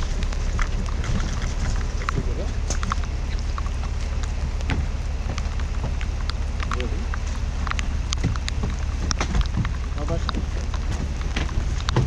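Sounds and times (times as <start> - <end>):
low rumble: 0.0 - 12.0
rain on wet pavement: 0.0 - 12.0.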